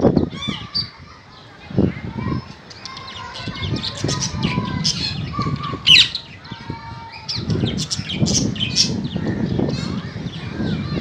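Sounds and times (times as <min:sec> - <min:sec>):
parakeets chattering and squawking: 0:00.2 - 0:11.0.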